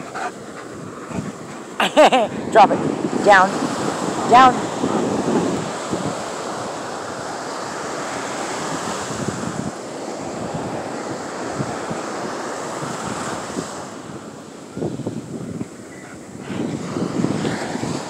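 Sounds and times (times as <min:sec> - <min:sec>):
ocean surf breaking on shore: 0:00.0 - 0:18.0
wind buffeting microphone: 0:00.0 - 0:18.0.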